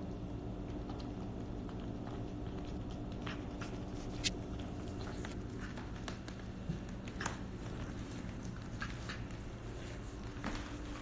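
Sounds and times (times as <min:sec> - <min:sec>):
cat chewing wetly: 0:00.0 - 0:10.9
steady low hum: 0:00.0 - 0:11.0.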